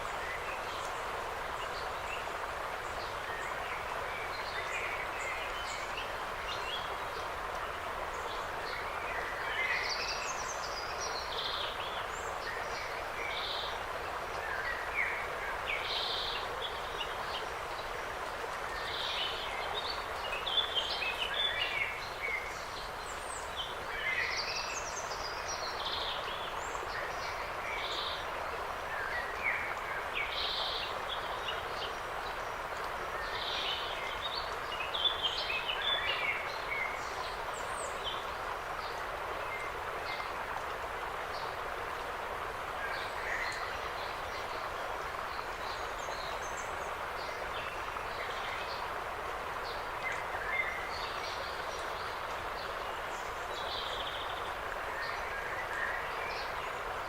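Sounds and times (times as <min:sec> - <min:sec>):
forest ambience hiss: 0:00.0 - 0:57.0.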